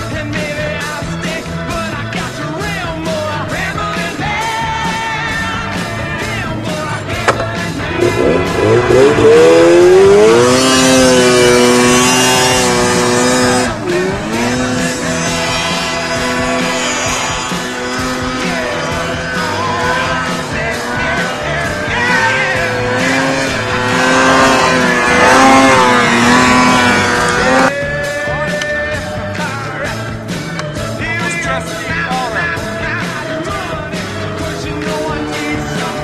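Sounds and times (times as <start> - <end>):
background music: 0.0 - 36.0
snowmobile engine revving: 0.3 - 27.8, 28.4 - 36.0.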